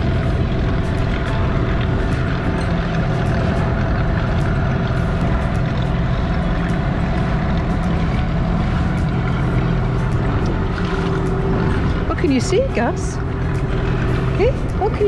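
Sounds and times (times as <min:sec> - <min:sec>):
small outboard motor running: 0:00.0 - 0:15.0
water noise: 0:00.0 - 0:15.0
wind noise: 0:00.0 - 0:15.0.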